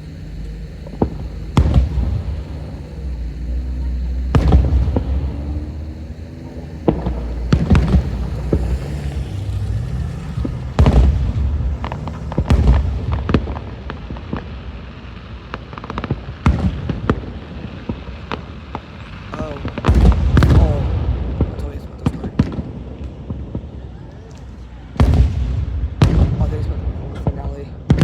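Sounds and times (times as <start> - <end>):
fireworks bangs and booms: 0.0 - 28.0.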